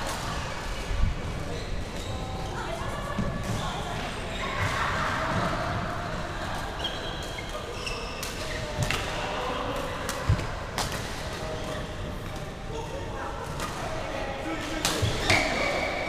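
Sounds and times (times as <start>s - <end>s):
court shoes squeaking: 0.0s - 5.5s, 6.6s - 16.0s.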